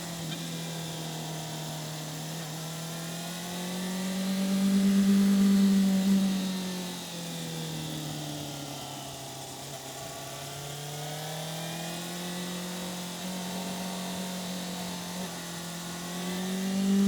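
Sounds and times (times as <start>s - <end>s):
motorcycle engine riding: 0.0s - 17.0s.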